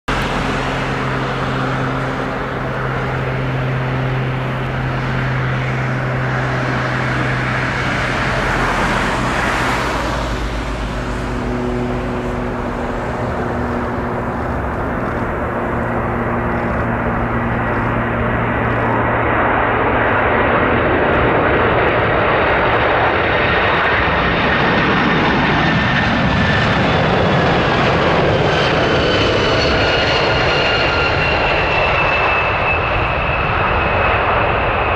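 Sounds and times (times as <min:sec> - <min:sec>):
high engine whines: 0:00.1 - 0:34.9
jet engines droning: 0:00.1 - 0:34.9.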